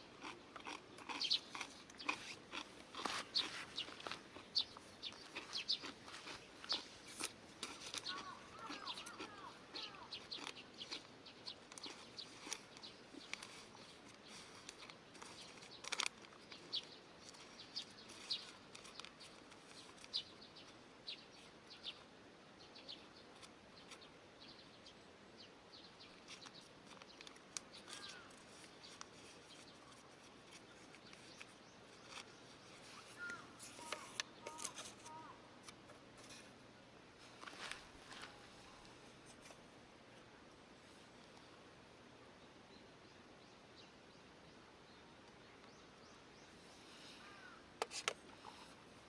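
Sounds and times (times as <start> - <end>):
small birds chirping: 0.0 - 40.4, 42.2 - 49.0
low outdoor hiss: 0.0 - 49.0.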